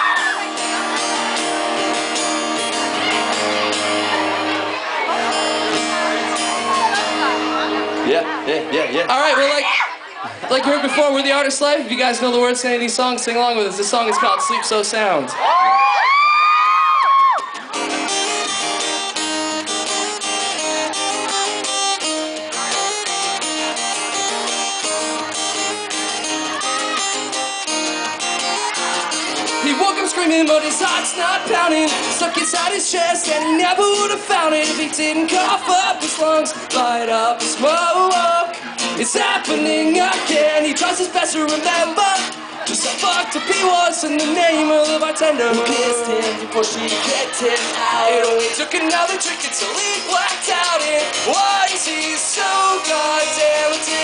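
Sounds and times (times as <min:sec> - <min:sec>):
amplified guitars strumming chords: 0:00.0 - 0:14.0, 0:17.5 - 0:54.0.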